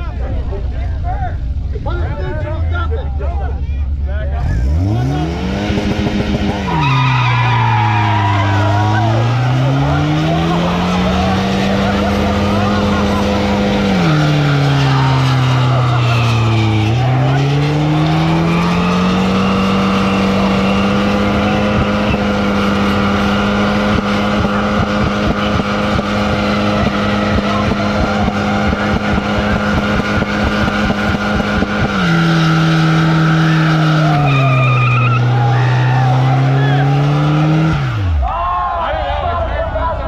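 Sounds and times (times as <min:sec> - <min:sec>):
car engine revving hard: 0:04.4 - 0:38.2.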